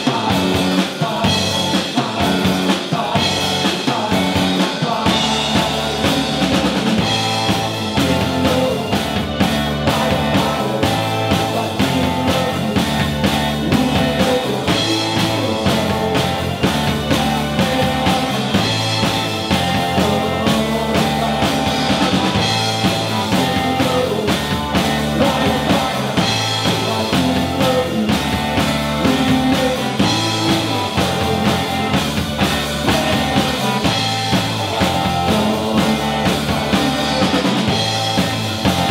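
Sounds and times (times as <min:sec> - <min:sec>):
bass guitar: 0:00.0 - 0:38.9
drum kit steady beat: 0:00.0 - 0:38.9
electric guitar: 0:00.0 - 0:38.9
keyboard: 0:00.0 - 0:38.9.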